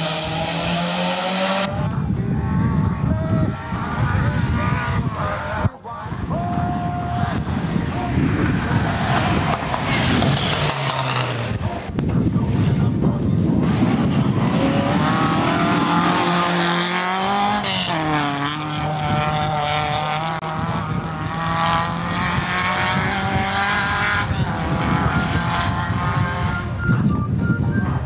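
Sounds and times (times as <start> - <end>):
rally car engine revving: 0.0 - 6.3, 6.9 - 27.0.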